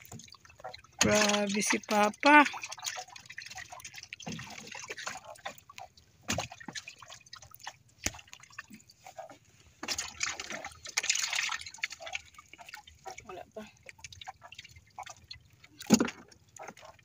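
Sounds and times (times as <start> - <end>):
water dripping and splashing: 0.0 - 17.0.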